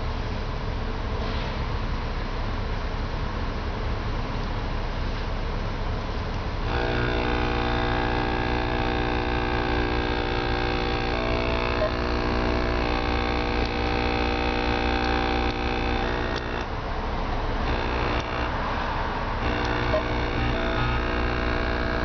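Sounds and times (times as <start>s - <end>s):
electronic hum from car speakers: 0.0s - 1.1s, 1.8s - 22.0s.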